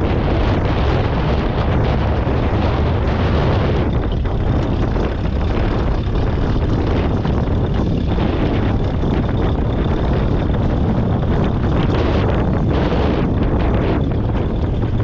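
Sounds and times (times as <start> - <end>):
tractor engine running: 0.0 - 15.0
wind buffeting microphone: 0.0 - 15.0.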